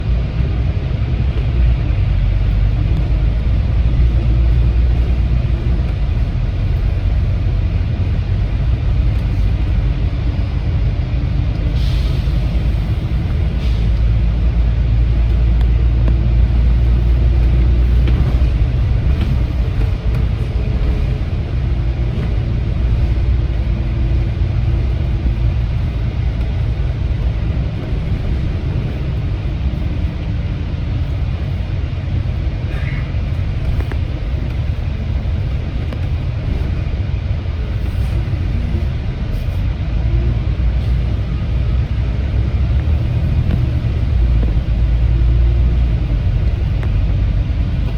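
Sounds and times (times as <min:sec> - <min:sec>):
bus engine and road noise: 0:00.0 - 0:47.9.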